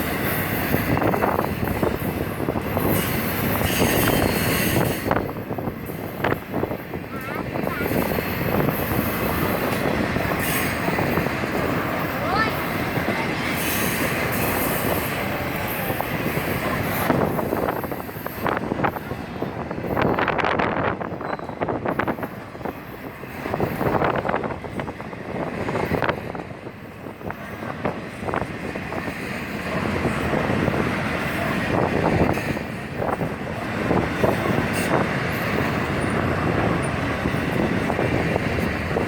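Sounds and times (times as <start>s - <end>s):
train cars knocking and clanking: 0.0s - 39.0s
train wheels rumbling on rails: 0.0s - 39.0s.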